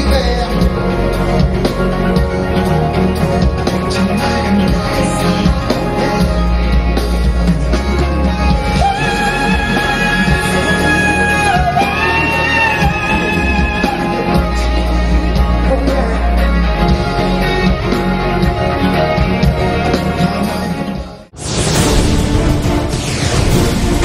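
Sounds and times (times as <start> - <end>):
pop song with singer and band: 0.0 - 21.3.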